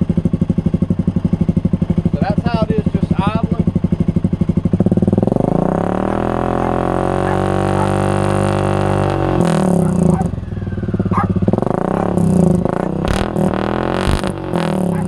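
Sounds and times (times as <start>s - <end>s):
loud quad bike engine revving: 0.0s - 15.0s.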